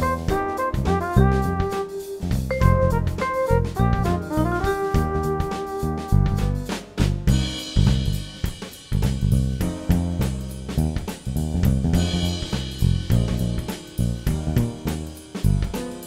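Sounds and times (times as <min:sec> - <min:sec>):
music with steady drum beat: 0:00.0 - 0:16.0.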